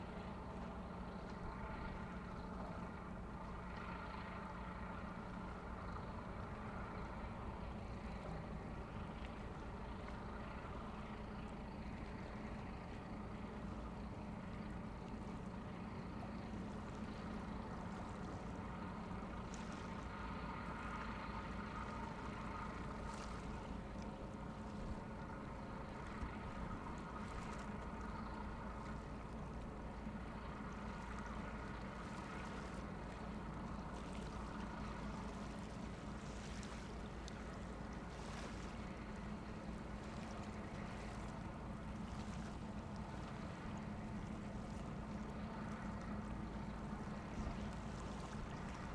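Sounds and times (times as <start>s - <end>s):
diesel engines droning: 0.0s - 48.9s
water noise: 0.0s - 48.9s
wind: 0.0s - 48.9s.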